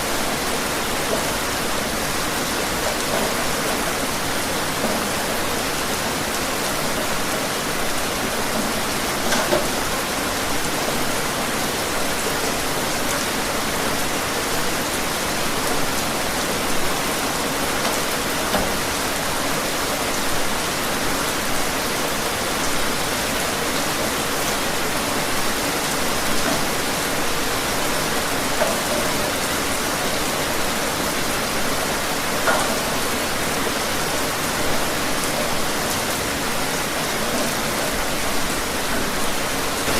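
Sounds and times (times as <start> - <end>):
individual raindrops: 0.0 - 39.9
steady rain falling: 0.0 - 39.9.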